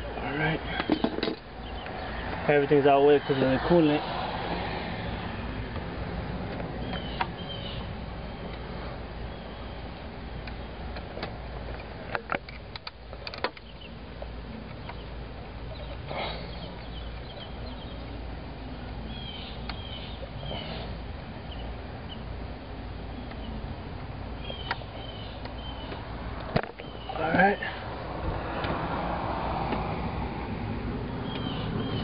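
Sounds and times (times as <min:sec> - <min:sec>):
birds chirping faintly: 0:00.0 - 0:04.0, 0:06.5 - 0:29.0, 0:31.0 - 0:32.0
steady low hum: 0:00.0 - 0:32.0.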